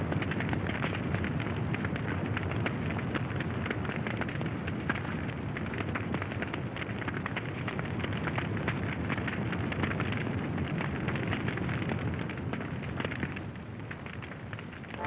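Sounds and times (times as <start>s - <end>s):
fire crackling: 0.0s - 15.0s
low rumble of fire: 0.0s - 15.0s.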